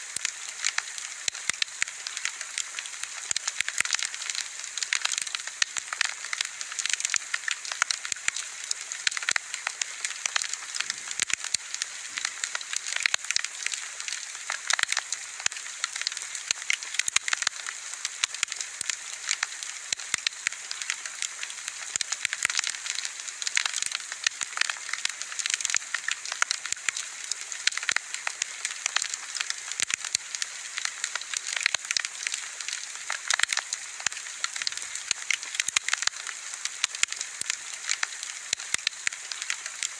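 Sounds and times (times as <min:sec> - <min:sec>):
wood fire crackling and popping: 0:00.2 - 0:39.9.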